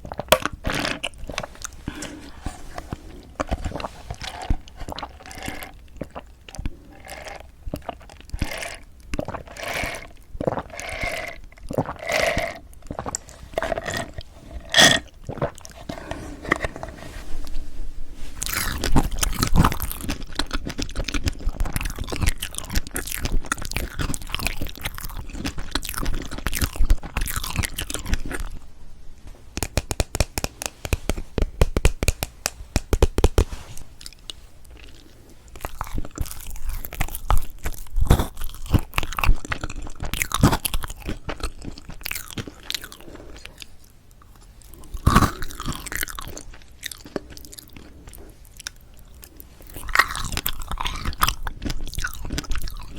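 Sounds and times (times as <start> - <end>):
chewing and biting cake: 0.0 - 16.8, 18.4 - 28.6, 29.5 - 52.9.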